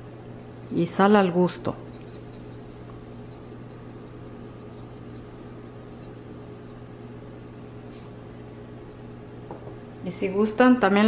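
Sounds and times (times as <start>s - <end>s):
steady low appliance hum: 0.0s - 11.0s.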